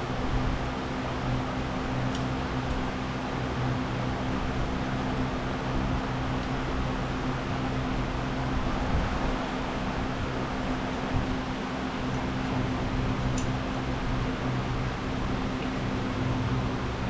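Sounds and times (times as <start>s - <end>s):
low even hum: 0.0s - 17.0s.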